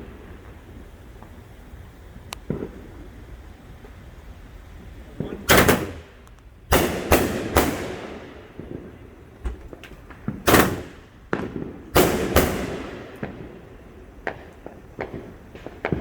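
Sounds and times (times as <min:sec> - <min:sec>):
fireworks banging: 0:00.0 - 0:16.0
small firework cracks: 0:00.0 - 0:16.0.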